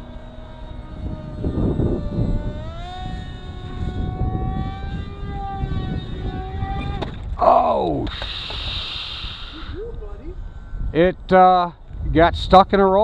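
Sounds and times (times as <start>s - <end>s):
model plane motor whining: 0.0s - 10.9s
wind buffeting microphone: 0.0s - 13.0s.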